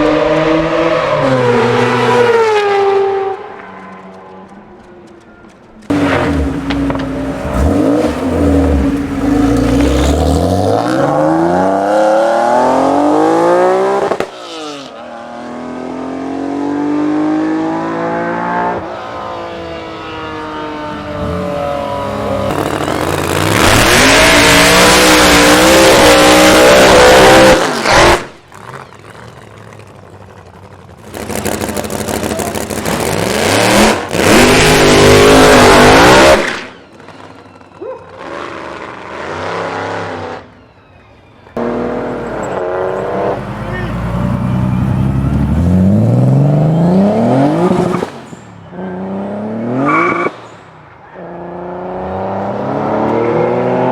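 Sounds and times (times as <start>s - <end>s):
car engines accelerating hard: 0.0s - 37.3s, 41.6s - 53.9s.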